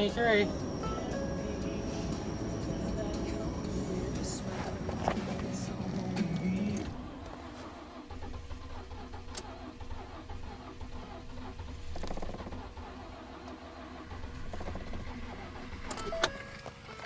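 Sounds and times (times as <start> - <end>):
engine cranking on starter: 0.0 - 17.0.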